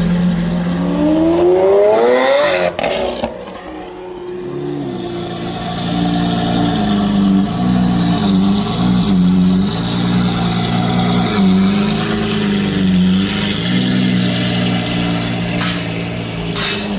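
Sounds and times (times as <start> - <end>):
supercar engine revving: 0.0 - 3.4, 4.3 - 16.9.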